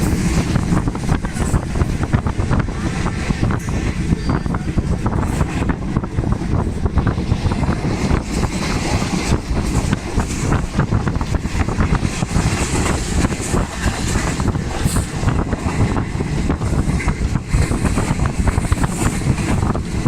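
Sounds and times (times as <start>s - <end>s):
train rumbling: 0.0s - 20.0s
train wheels clacking on rails: 0.0s - 20.0s.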